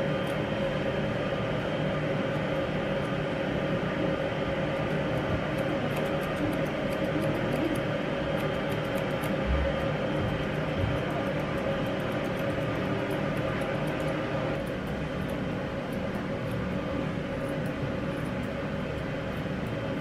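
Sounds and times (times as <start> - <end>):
scissors snipping fur: 0.0 - 1.1, 2.0 - 20.0
machine hum: 0.0 - 20.0.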